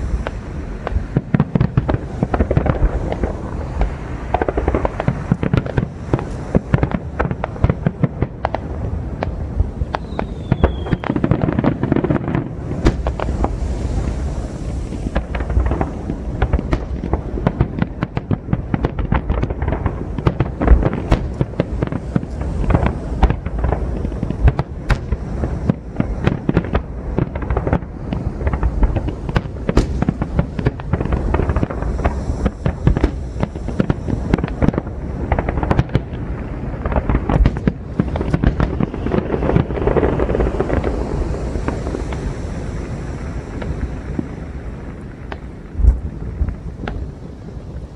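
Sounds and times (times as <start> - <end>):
fireworks booming bursts: 0.0 - 47.9
fireworks sharp cracks: 0.0 - 47.9.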